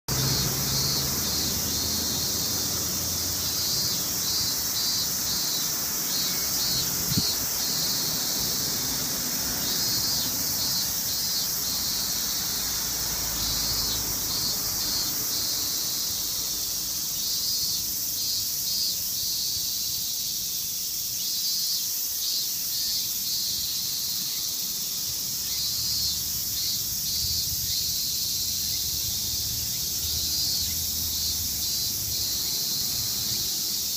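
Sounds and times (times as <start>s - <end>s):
cicadas buzzing in chorus: 0.0s - 33.9s
quick pulsing insect calls: 0.1s - 33.9s.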